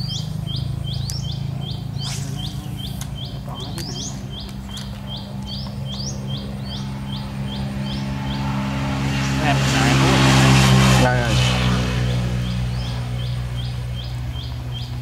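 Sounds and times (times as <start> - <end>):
bird chirping high rising notes: 0.0 - 15.0
low engine drone: 0.0 - 15.0.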